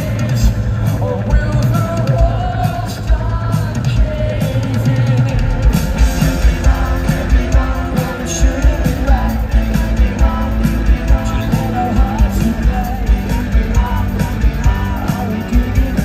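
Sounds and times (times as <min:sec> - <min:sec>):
drum kit steady beat: 0:00.0 - 0:16.0
lead vocal singing: 0:00.0 - 0:16.0
rock band playing live: 0:00.0 - 0:16.0.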